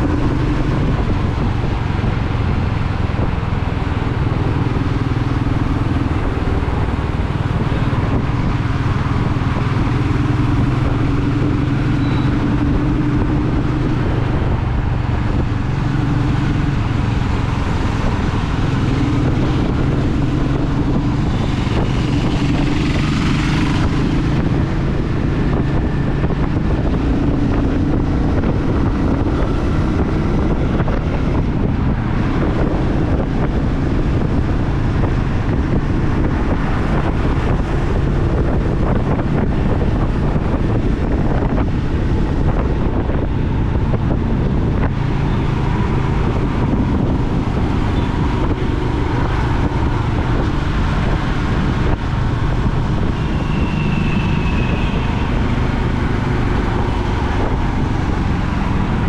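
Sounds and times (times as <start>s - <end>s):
motorcycle engine cruising: 0.0s - 59.0s
wind on microphone: 0.0s - 59.0s.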